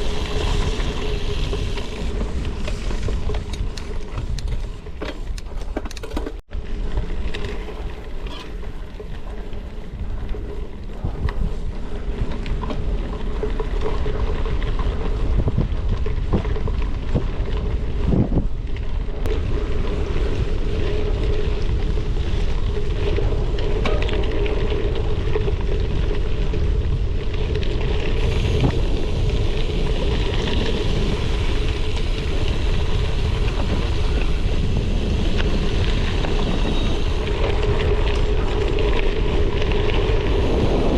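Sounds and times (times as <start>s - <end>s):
bike tyres rumbling on gravel: 0.0s - 40.9s
wind on microphone: 6.9s - 40.9s.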